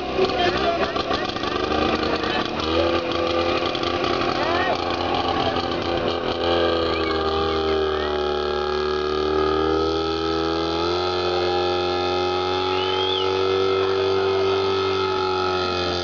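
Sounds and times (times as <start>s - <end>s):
tractor engine labouring: 0.0s - 16.0s.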